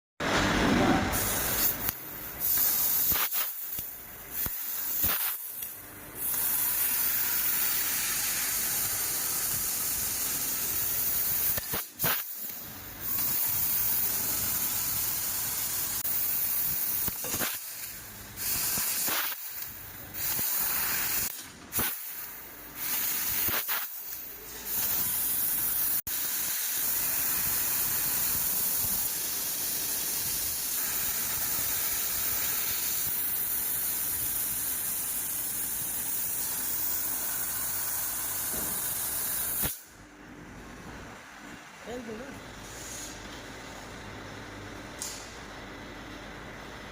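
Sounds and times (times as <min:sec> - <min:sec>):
laser cutter gas hissing: 0:01.1 - 0:39.9.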